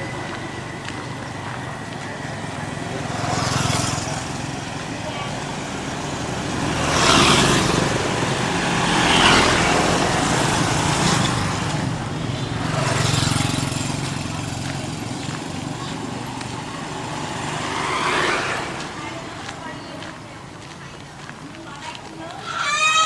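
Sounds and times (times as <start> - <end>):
small motorbike engine running: 0.0 - 20.2
passing vehicle noise: 0.0 - 23.0.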